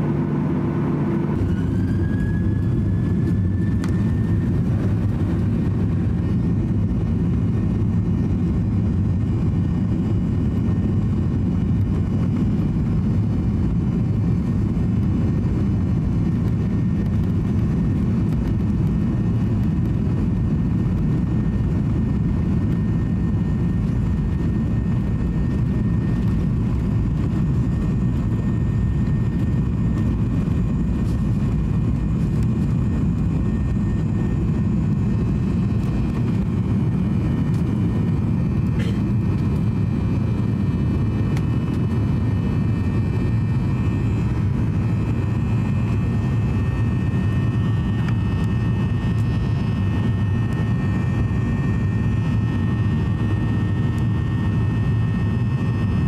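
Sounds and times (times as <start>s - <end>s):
jet engines roaring in cabin: 0.0s - 56.0s.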